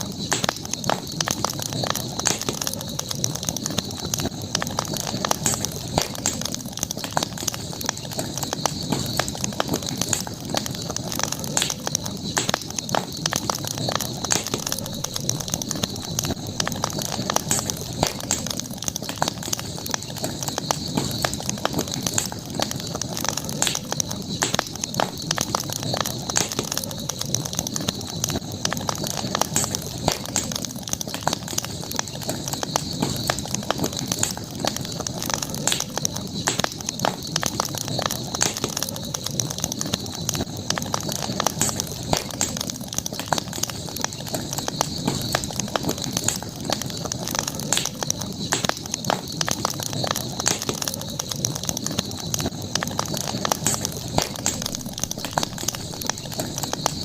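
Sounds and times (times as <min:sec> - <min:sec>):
campfire crackling and popping: 0:00.0 - 0:57.0
low rushing of flames: 0:00.0 - 0:57.0.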